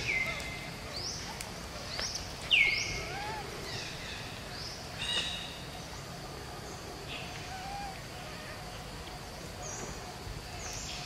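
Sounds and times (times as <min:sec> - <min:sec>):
birds calling: 0:00.0 - 0:11.0
outdoor background hiss: 0:00.0 - 0:11.0.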